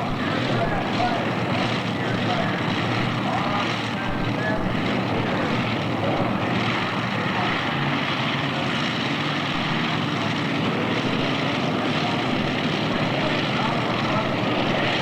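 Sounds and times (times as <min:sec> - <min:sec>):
tractor engines droning under load: 0:00.0 - 0:15.0.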